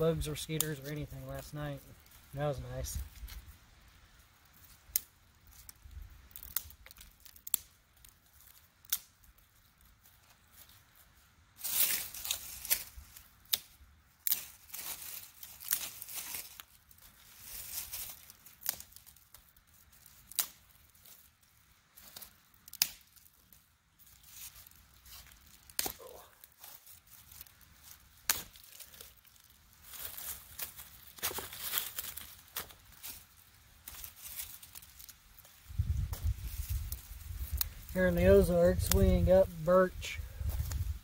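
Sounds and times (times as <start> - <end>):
rustling and scraping of sticks: 0.0 - 41.0
dry twigs snapping: 3.0 - 11.0, 11.6 - 38.0, 40.4 - 41.0.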